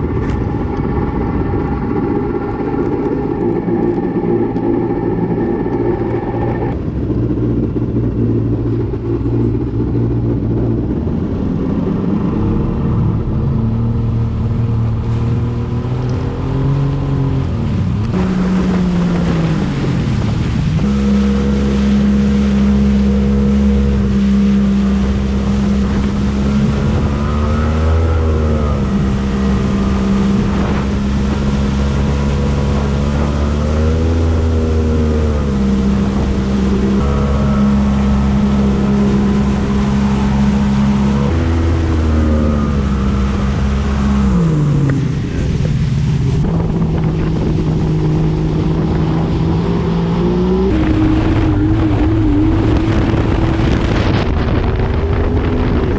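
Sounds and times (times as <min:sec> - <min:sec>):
two-stroke engine running: 0:00.0 - 0:49.3.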